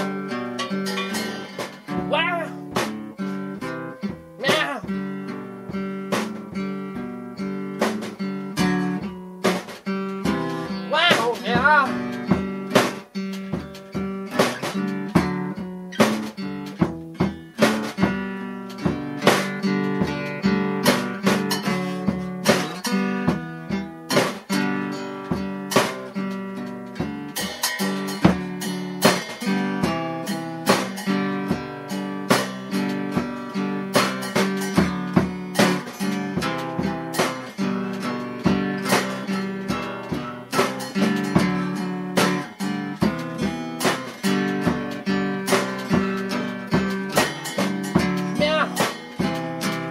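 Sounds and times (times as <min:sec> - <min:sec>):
acoustic guitar strumming chords: 0:00.0 - 0:49.9.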